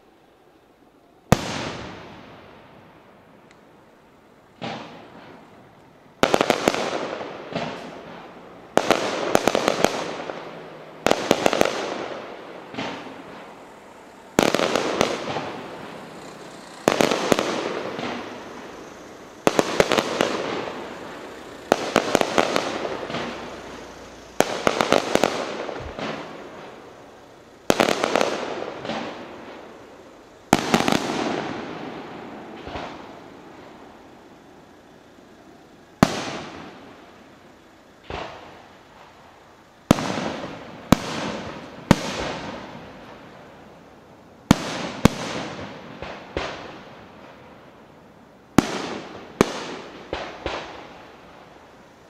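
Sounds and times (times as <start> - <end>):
firework crackling: 0.0 - 52.0
firework bangs: 1.2 - 52.0.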